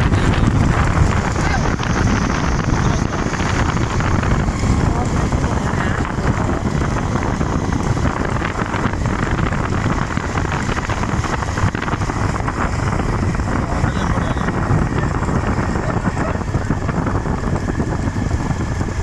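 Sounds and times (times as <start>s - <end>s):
motorcycle engines running: 0.0s - 19.0s
wind buffeting microphone: 0.0s - 19.0s.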